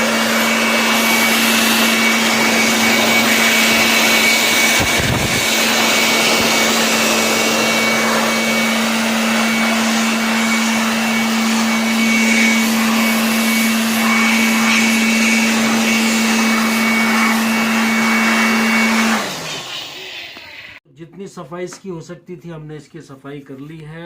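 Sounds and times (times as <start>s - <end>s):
electric dust blower whining: 0.0s - 20.8s.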